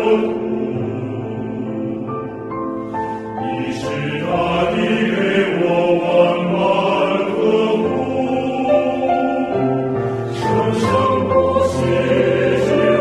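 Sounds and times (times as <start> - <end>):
choir-like voices: 0.0 - 13.0.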